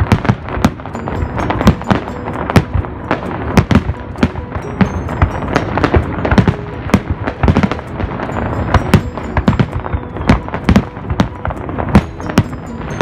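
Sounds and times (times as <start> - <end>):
fireworks bangs: 0.0 - 13.0
fireworks rumble and crackle: 0.0 - 13.0.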